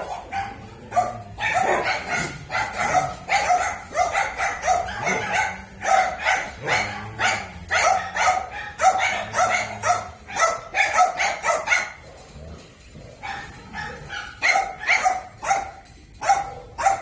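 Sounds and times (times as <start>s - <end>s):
dog barking: 0.0s - 12.1s, 13.2s - 17.0s.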